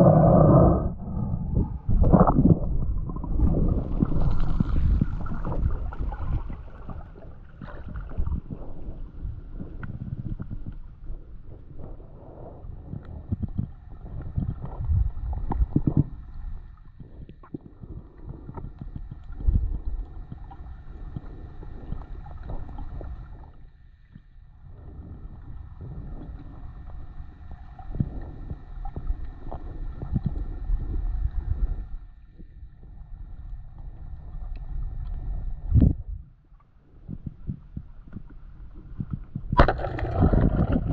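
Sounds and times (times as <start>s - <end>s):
underwater rumble of moving water: 0.0s - 40.9s.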